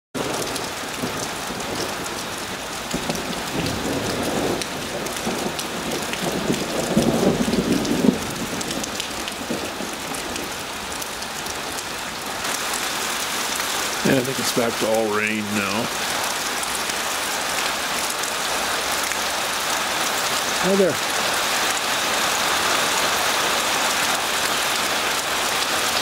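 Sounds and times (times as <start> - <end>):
steady rain falling: 0.2 - 26.0.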